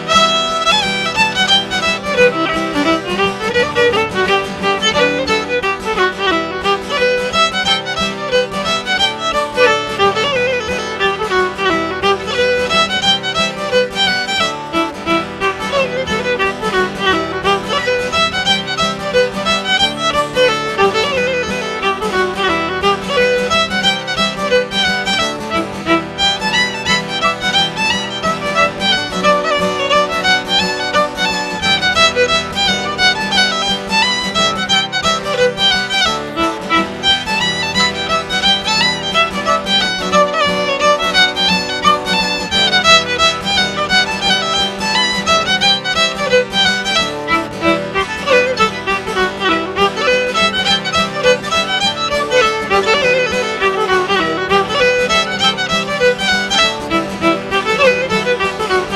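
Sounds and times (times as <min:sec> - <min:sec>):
fiddle playing a dance tune: 0:00.0 - 0:58.9.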